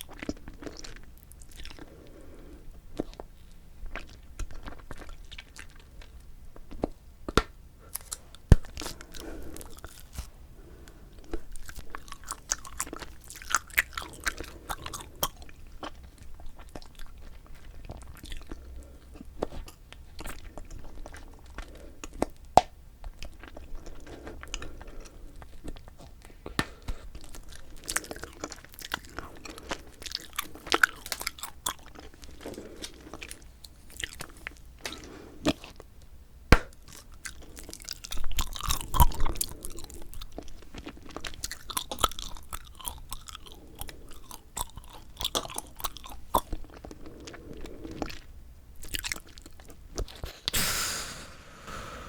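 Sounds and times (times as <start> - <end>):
gum chewing wet smacking: 0.0 - 10.3, 11.2 - 35.9, 36.7 - 50.3.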